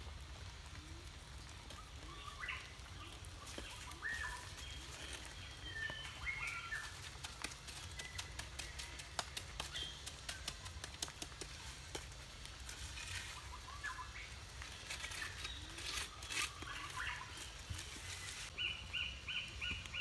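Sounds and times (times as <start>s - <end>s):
small birds chirping: 0.7s - 20.0s.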